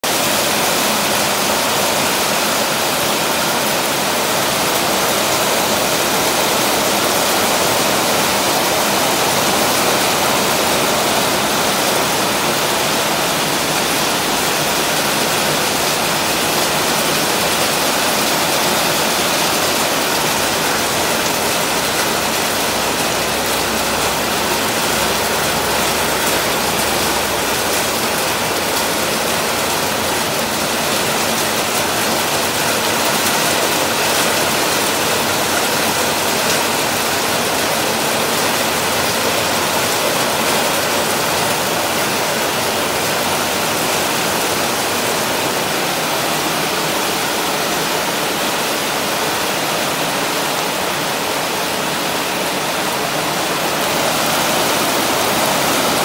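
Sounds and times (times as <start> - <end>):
heavy rain on a metal roof: 0.0 - 56.0
water pouring off roof edge: 0.0 - 56.0.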